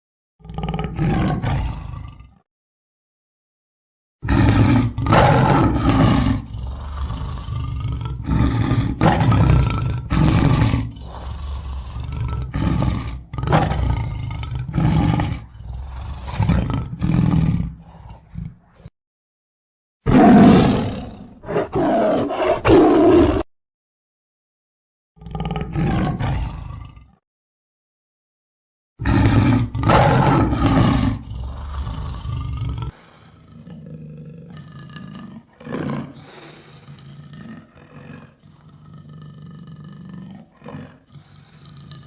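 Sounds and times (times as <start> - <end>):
lion roaring: 0.4 - 2.4, 4.2 - 18.9, 20.1 - 23.5, 25.2 - 27.2, 29.0 - 42.0.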